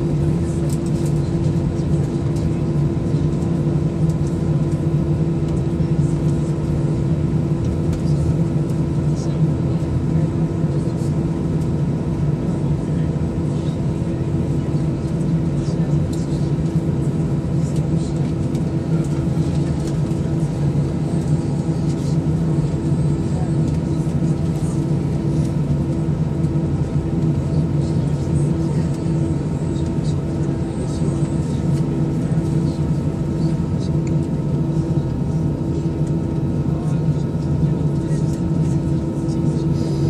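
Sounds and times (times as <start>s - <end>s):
jet engine cabin drone: 0.0s - 40.0s.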